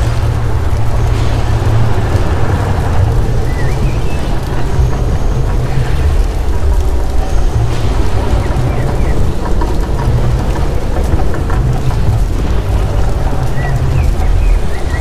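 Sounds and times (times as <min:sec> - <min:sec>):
deep rumble over loudspeakers: 0:00.0 - 0:15.0.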